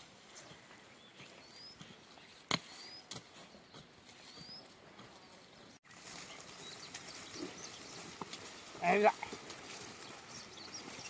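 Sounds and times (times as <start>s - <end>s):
bird chirping: 0.4s - 9.0s, 9.7s - 11.0s.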